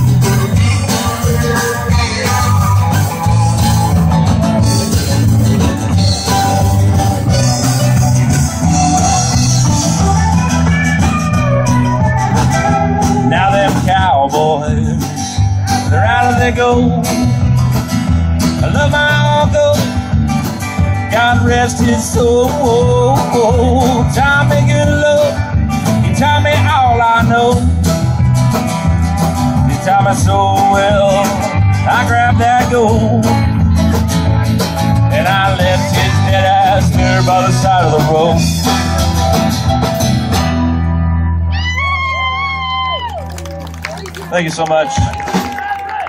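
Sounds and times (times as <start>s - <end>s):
strummed acoustic guitar: 0.0s - 41.2s
mandolin: 0.0s - 41.4s
bass line: 0.0s - 46.0s
drums: 0.0s - 46.0s
electric guitar: 0.0s - 46.0s.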